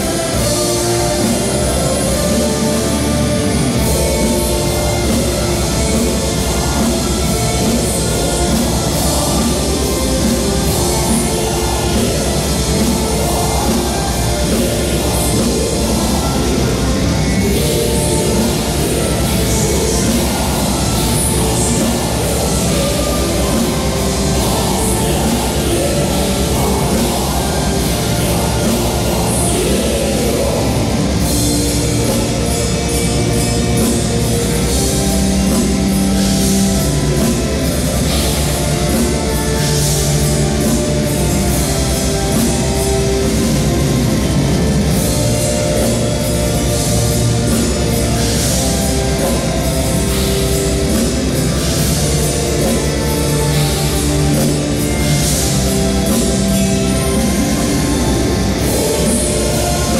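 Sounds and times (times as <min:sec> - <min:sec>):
heavy metal band playing: 0:00.0 - 0:59.9.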